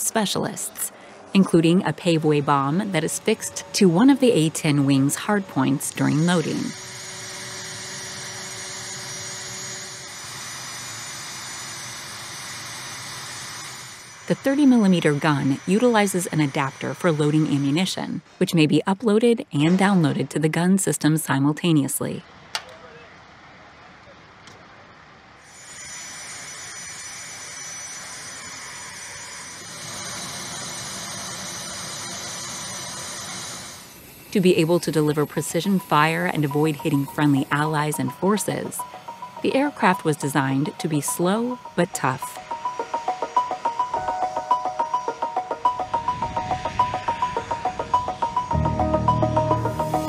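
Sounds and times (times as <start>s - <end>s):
high whine: 0.0s - 17.8s, 25.4s - 50.0s
jet aircraft engines running: 0.0s - 18.4s, 26.2s - 50.0s
machinery hiss: 2.0s - 17.8s, 25.4s - 50.0s.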